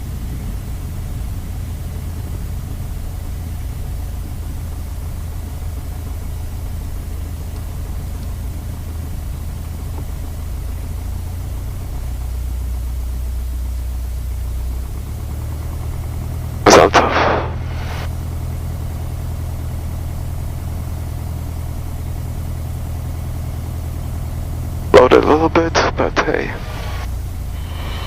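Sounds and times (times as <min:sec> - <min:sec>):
aircraft engine humming: 0:00.0 - 0:28.0.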